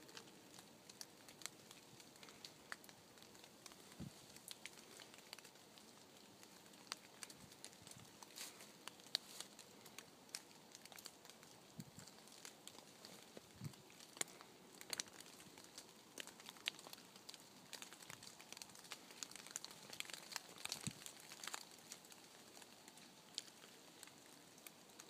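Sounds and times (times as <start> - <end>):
rain dripping on dry leaves: 0.0 - 25.0.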